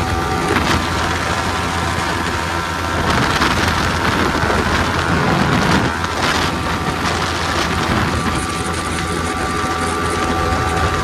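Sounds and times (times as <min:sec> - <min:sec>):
motorcycle engine at high revs: 0:00.0 - 0:11.0
wind noise on microphone: 0:00.0 - 0:11.0.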